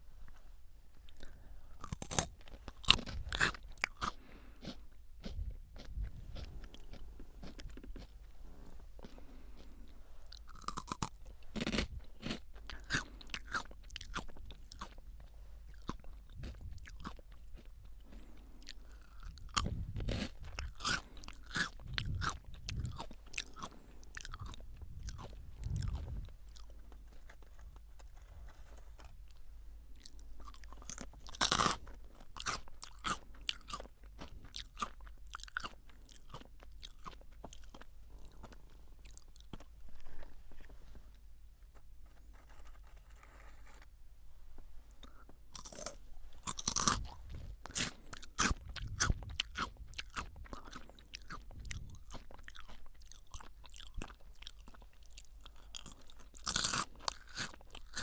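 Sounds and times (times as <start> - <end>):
crunchy chewing of potato sticks: 0.0 - 44.0, 44.6 - 58.0.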